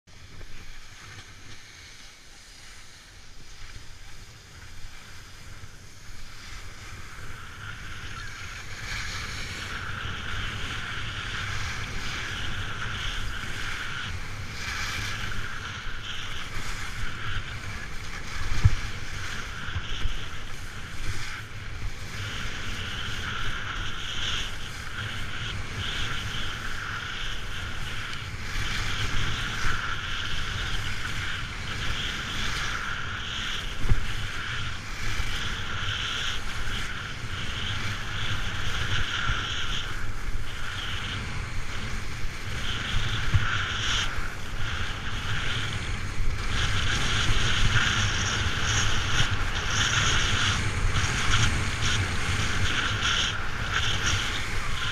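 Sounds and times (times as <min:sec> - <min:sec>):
skis scraping on snow: 0:00.1 - 0:54.9
wind buffeting microphone: 0:00.1 - 0:54.9.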